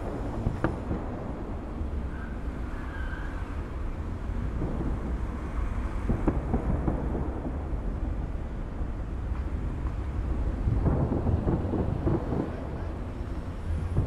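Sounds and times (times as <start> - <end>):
distant fireworks booming: 0.0 - 14.0
sharp firework bangs: 0.0 - 14.0.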